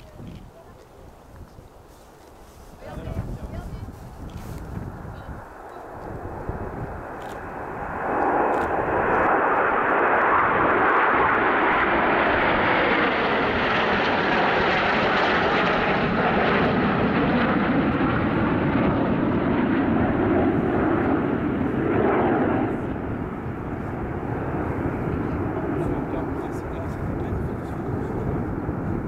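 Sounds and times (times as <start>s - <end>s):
jets flying past roaring: 3.4s - 29.0s.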